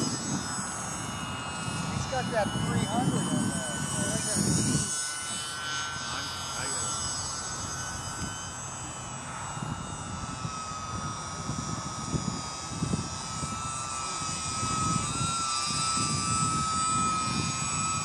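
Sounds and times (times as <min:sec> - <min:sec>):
rc plane motor whine: 0:00.0 - 0:18.0.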